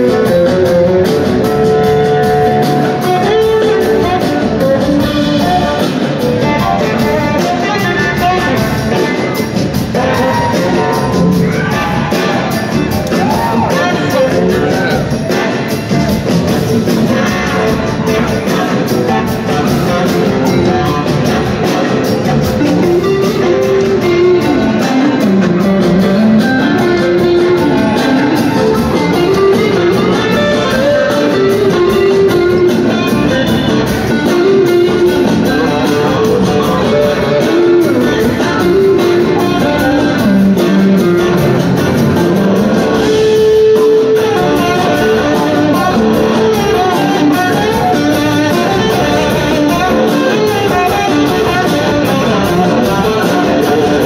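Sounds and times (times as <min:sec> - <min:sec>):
drums and bass: 0:00.0 - 0:54.0
electric guitar solo: 0:00.0 - 0:54.0.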